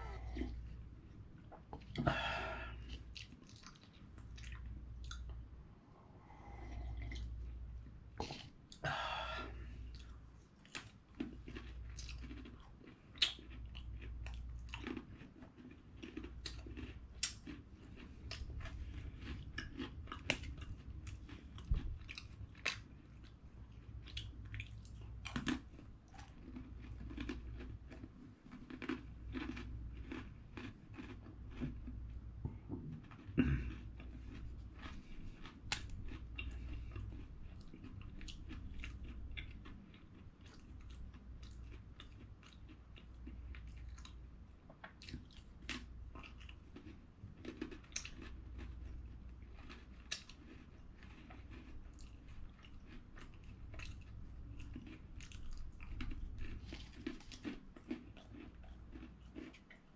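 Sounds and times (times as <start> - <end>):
chewing and crunching food: 0.0 - 5.6, 6.2 - 59.9
low steady hum: 0.0 - 59.9.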